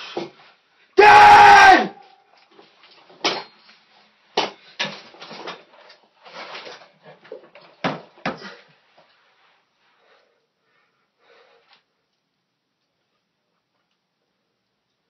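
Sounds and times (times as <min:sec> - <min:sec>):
rustling and shuffling: 0:02.3 - 0:14.4.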